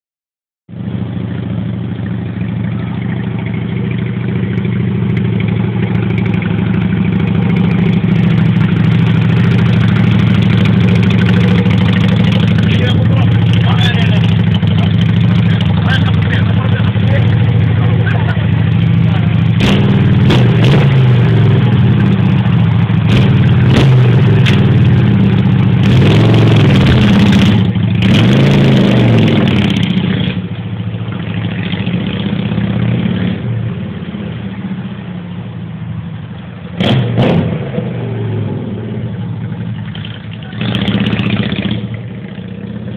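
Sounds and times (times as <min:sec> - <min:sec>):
motorcycle engine revving: 0:00.7 - 0:35.0, 0:36.7 - 0:42.9.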